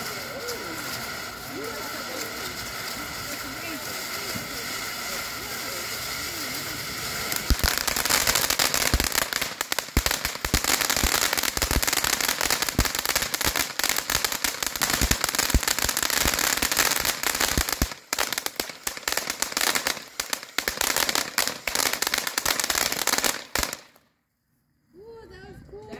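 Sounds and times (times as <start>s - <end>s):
firework fountain hissing and crackling: 0.0s - 24.1s.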